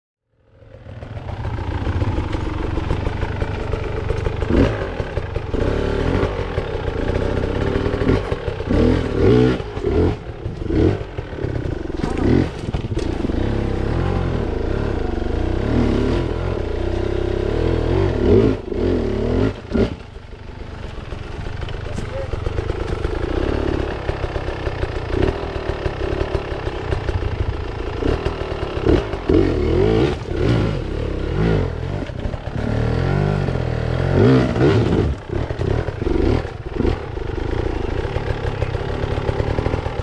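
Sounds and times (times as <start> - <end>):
dirt bike engine revving: 0.8 - 40.0.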